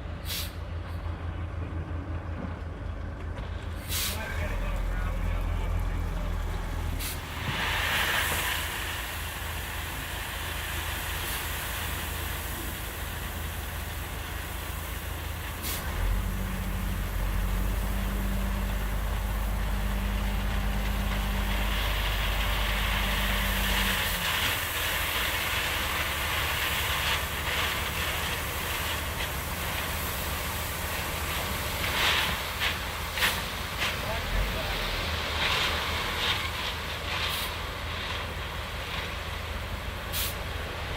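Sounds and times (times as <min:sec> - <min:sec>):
truck engine running: 0:00.6 - 0:40.9.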